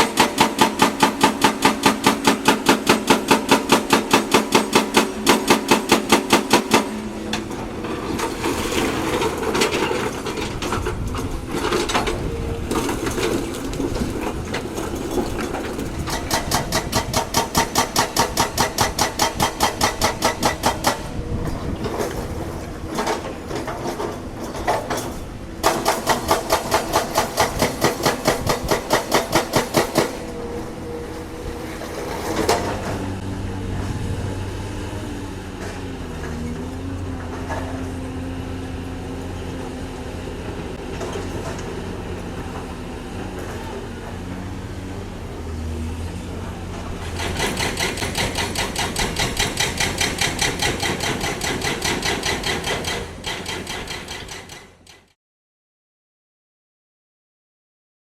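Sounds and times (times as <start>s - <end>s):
excavator diesel engine under load: 0.0s - 55.1s.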